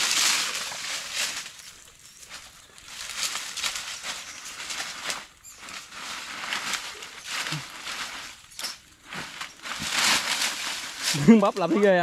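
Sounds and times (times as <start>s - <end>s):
scuffling in dry soil: 0.0s - 12.0s.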